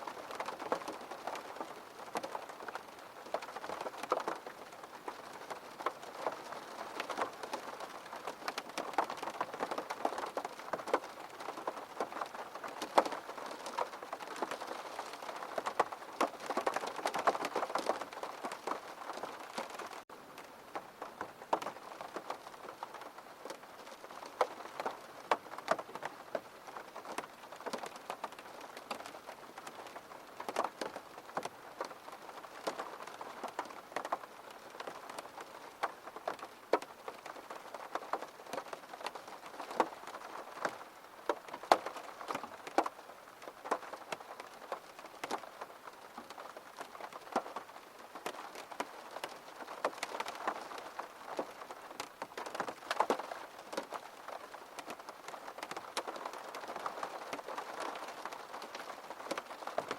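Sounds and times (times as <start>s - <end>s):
rain drops ticking: 0.0s - 59.9s.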